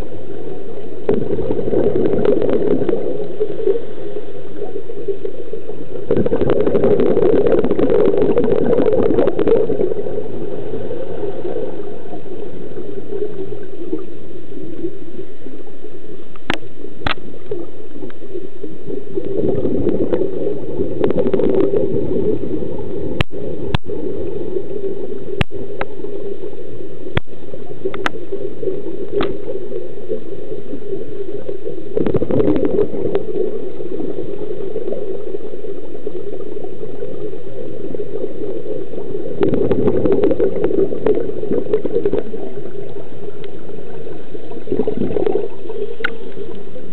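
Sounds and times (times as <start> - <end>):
diver's exhaled bubbles underwater: 0.0 - 46.9
muffled rush of water: 0.0 - 46.9.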